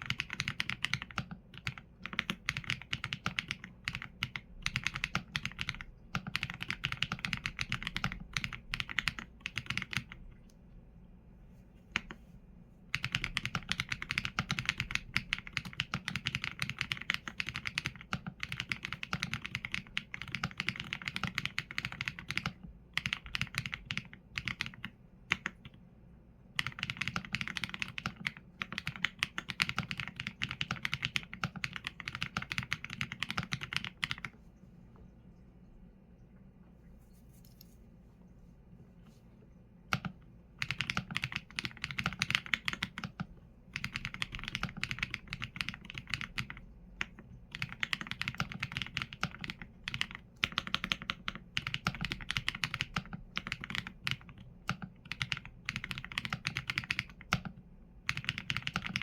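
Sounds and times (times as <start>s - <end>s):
mechanical keyboard typing: 0.0s - 10.2s, 12.9s - 25.8s, 26.6s - 34.3s, 39.9s - 59.0s.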